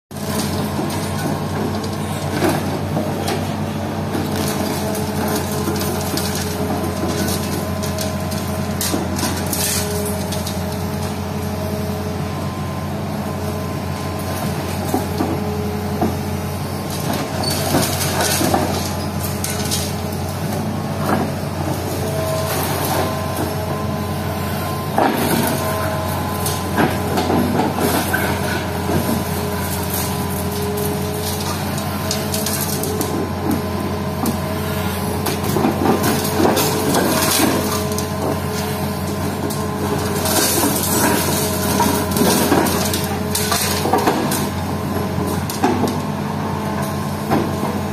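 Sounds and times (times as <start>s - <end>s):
excavator diesel engine: 0.1s - 47.9s.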